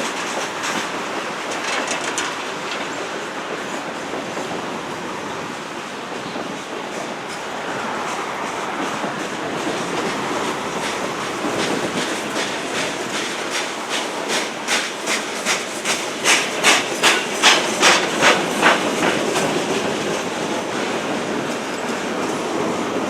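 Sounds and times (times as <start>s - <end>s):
freight train rolling past: 0.0s - 23.0s
train wheels clacking on rail joints: 0.0s - 23.0s.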